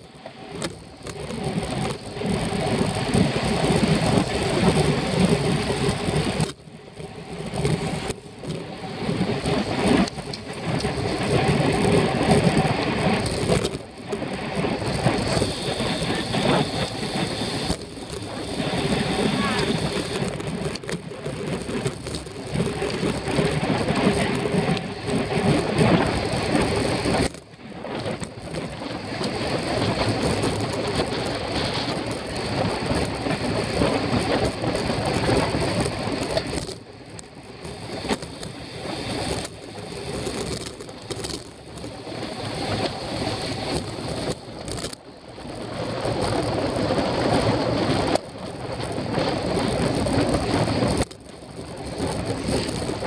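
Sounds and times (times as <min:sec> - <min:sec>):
bicycle tyre noise on road: 0:00.0 - 0:53.0
wind rushing over microphone: 0:00.0 - 0:53.0.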